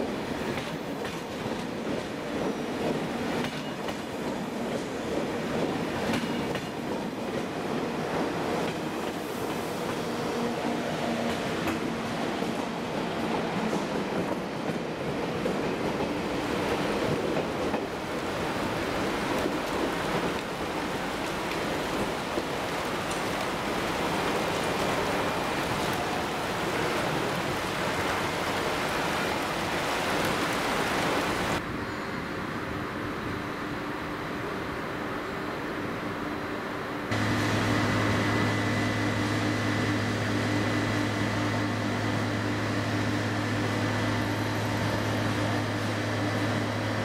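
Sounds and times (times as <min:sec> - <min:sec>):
train wheels on rails: 0:00.0 - 0:34.6, 0:37.1 - 0:47.0.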